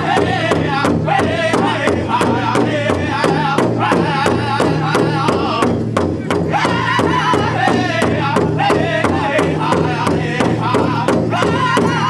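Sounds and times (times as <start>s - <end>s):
large drum beating: 0.0s - 12.0s
men singing together: 0.0s - 12.0s.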